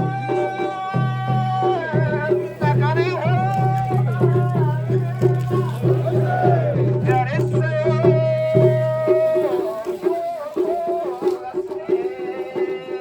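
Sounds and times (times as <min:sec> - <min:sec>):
drums beating: 0:00.0 - 0:13.0
festival music: 0:00.0 - 0:13.0.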